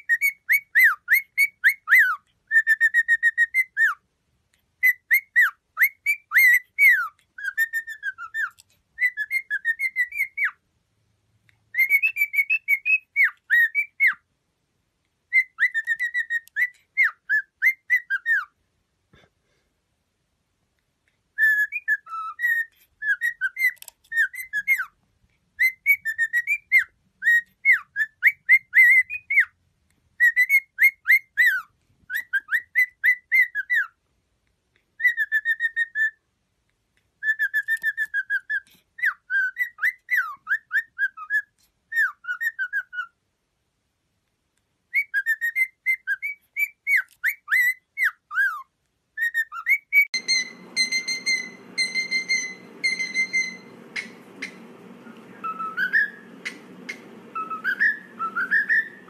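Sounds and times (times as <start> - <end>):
cockatiel whistling: 0.0 - 4.0, 4.8 - 10.6, 11.7 - 14.2, 15.3 - 18.5, 21.4 - 25.0, 25.6 - 29.6, 30.2 - 33.9, 35.0 - 36.2, 37.2 - 43.2, 44.9 - 59.0.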